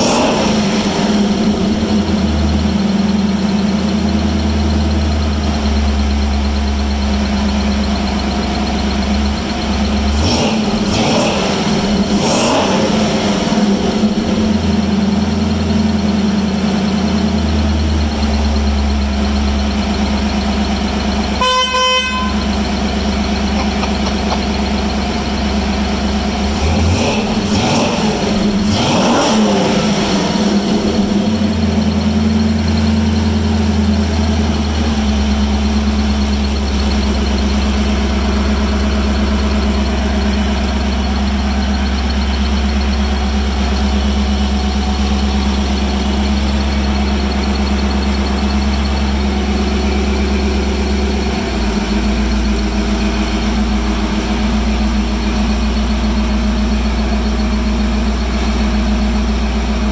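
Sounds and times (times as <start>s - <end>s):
engine revving: 0.0s - 3.6s, 9.3s - 19.9s, 21.4s - 59.9s
engine idling: 0.0s - 59.9s.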